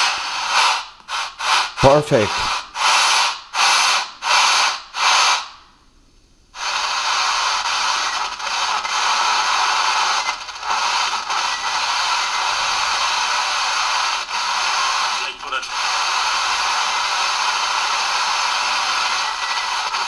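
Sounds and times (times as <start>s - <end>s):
radio static hiss: 0.0s - 5.4s, 6.6s - 20.0s.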